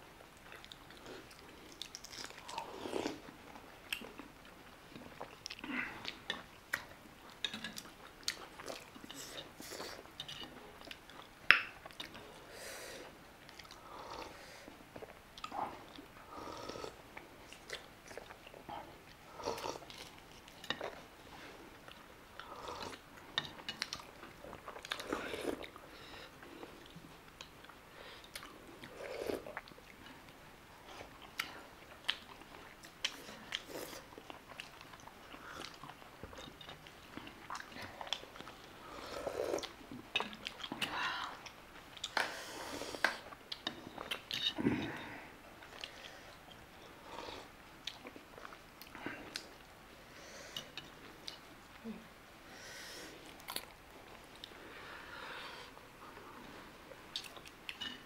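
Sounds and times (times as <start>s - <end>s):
person chewing food: 0.2s - 49.7s, 50.4s - 52.0s, 53.0s - 58.0s.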